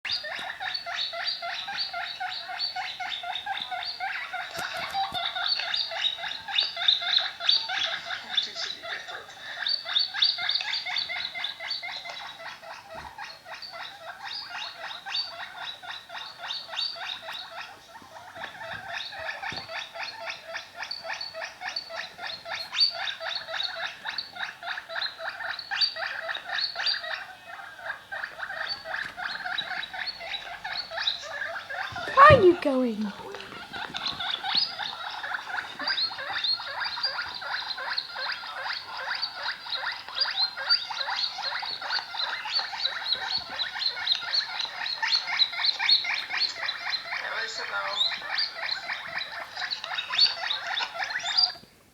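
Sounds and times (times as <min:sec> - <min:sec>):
guinea pig squeaking: 0:00.1 - 0:51.6.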